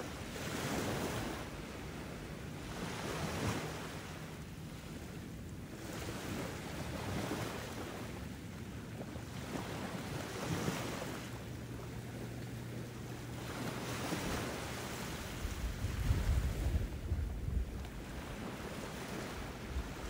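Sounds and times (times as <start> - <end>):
ocean waves washing in: 0.0 - 20.0.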